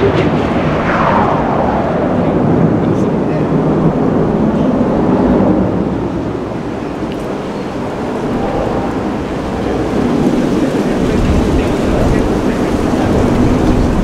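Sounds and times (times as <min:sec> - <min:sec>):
jet engine roar: 0:00.0 - 0:14.0
jet engine whine falling in pitch: 0:00.0 - 0:14.0.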